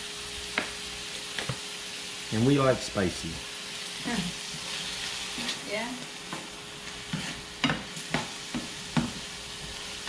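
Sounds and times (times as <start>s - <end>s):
meat and pepper sizzling in pan: 0.0s - 10.0s.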